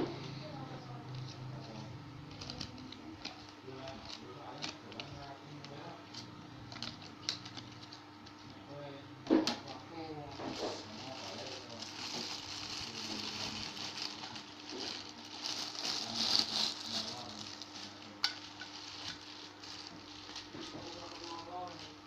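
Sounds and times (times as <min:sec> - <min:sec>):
plastic packaging crinkling: 0:01.2 - 0:08.4, 0:09.6 - 0:22.0.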